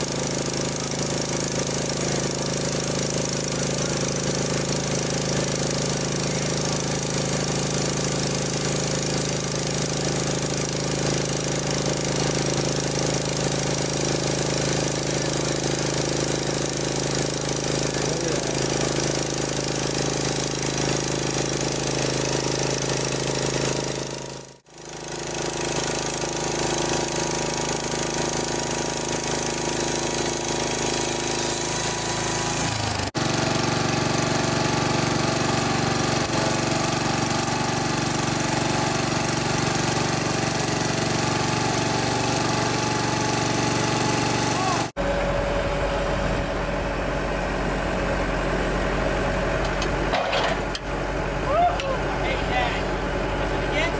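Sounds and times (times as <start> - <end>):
band sawmill sawing log: 0.0 - 53.9.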